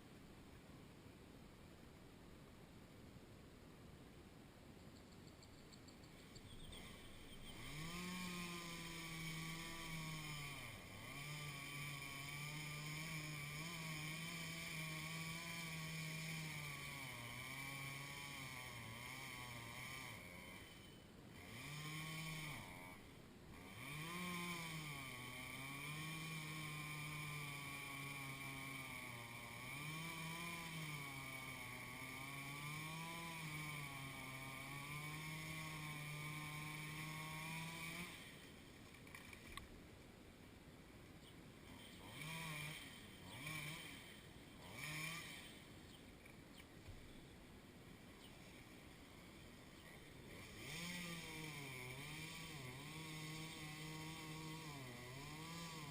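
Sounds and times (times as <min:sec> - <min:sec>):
chainsaw running: 0:06.8 - 0:39.7, 0:41.6 - 0:46.4, 0:47.9 - 0:55.9.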